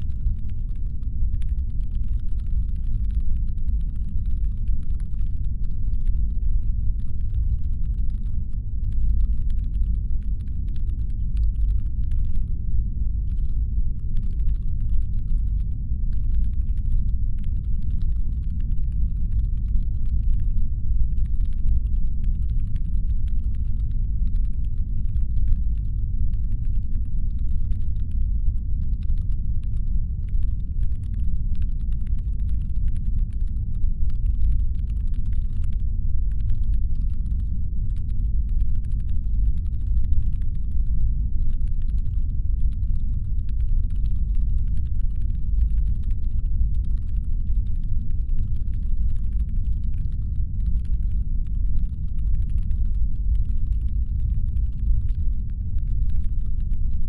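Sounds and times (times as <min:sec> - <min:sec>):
faint crackling ticks: 0:00.0 - 0:12.6, 0:13.2 - 0:57.0.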